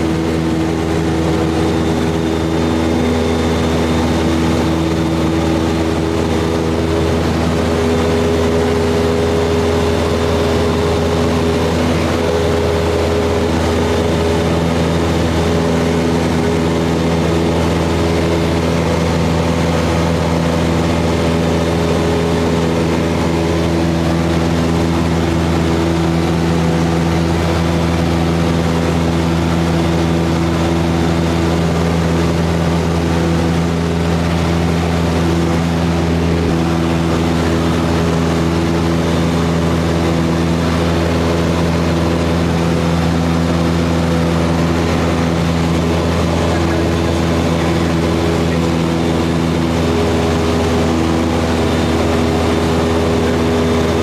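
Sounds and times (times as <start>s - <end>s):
aircraft engine and propeller running: 0.0s - 54.0s.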